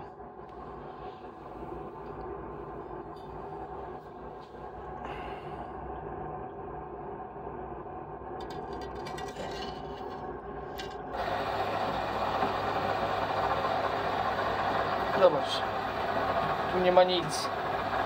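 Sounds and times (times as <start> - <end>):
boiler firebox rushing hum: 0.0 - 18.0
low steady hum: 0.0 - 18.0.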